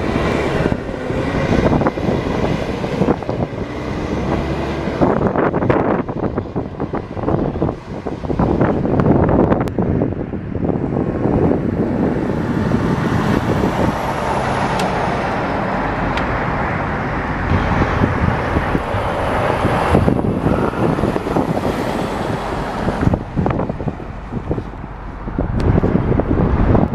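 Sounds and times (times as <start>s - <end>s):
dump truck driving past: 0.0s - 8.8s, 10.8s - 26.7s.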